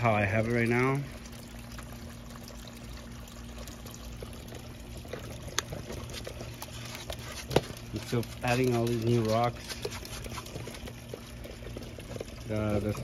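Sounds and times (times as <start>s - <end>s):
faint steady hum: 0.0s - 13.0s
water pouring into pond: 0.0s - 13.0s.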